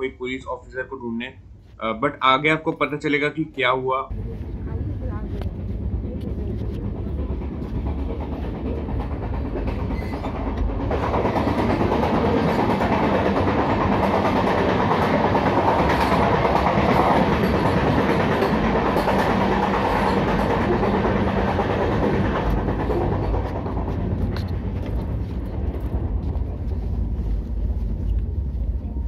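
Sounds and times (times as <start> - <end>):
train running on track: 0.0 - 29.0.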